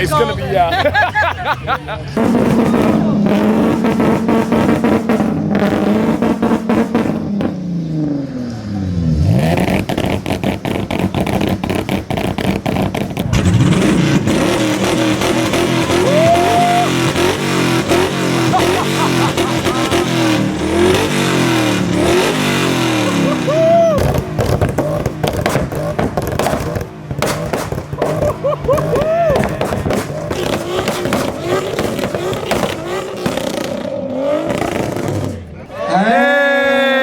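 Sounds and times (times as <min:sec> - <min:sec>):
exhaust crackles: 0:00.0 - 0:36.2
sports car engine revving: 0:02.0 - 0:35.7.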